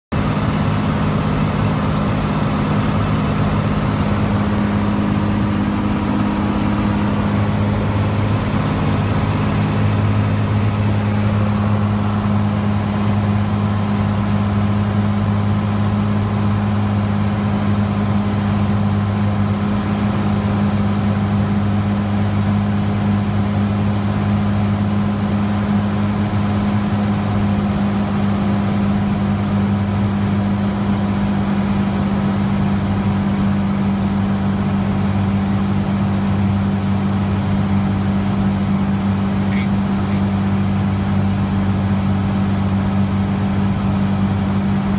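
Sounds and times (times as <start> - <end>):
propeller plane engine droning: 0.1 - 44.9.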